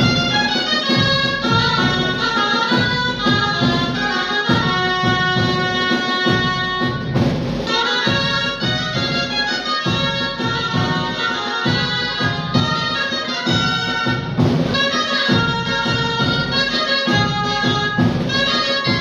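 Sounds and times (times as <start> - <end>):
reedy folk pipes playing: 0.0 - 19.0
snare drum beat: 0.0 - 19.0.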